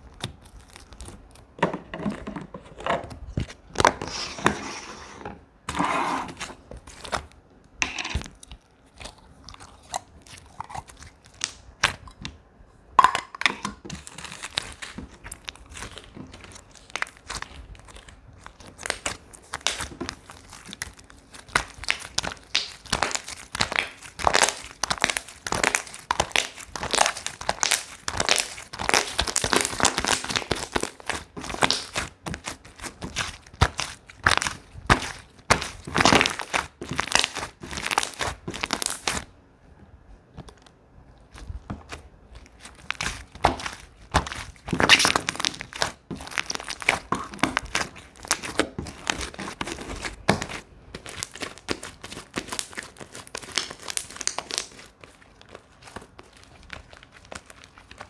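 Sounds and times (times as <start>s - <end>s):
hands squeezing crackling slime: 0.0s - 1.6s, 8.4s - 12.2s, 13.9s - 39.3s, 40.4s - 58.0s.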